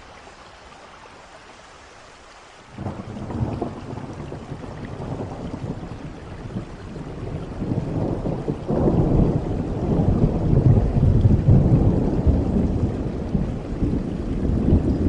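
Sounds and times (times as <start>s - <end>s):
steady rain: 0.0s - 15.0s
thunder rumbling: 2.8s - 15.0s.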